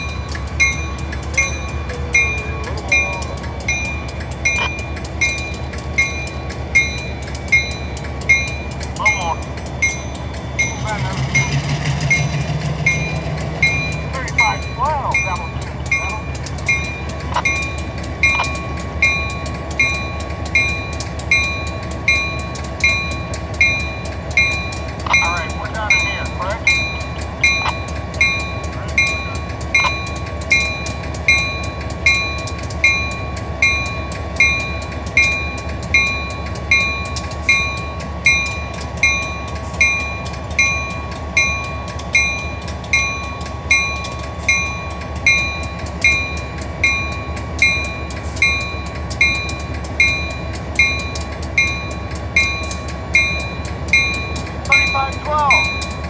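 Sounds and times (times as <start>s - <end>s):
crossing bell ringing: 0.0s - 56.0s
diesel locomotive idling: 0.0s - 56.0s.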